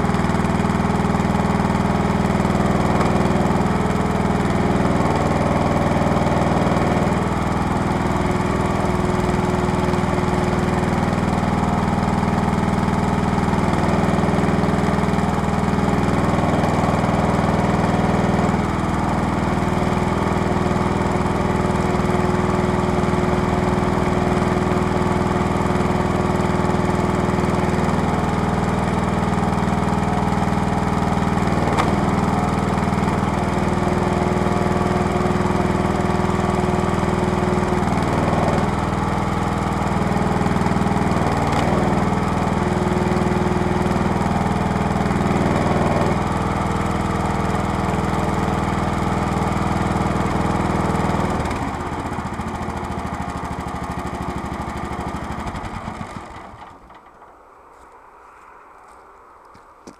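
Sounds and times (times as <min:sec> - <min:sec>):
small engine running: 0:00.0 - 0:57.2.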